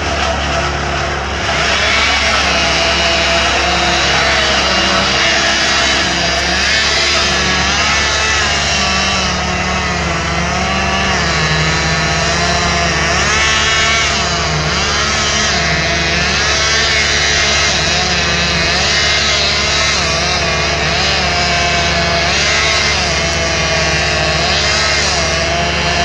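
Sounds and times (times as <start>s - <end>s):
chainsaw engines revving: 0.0s - 26.0s.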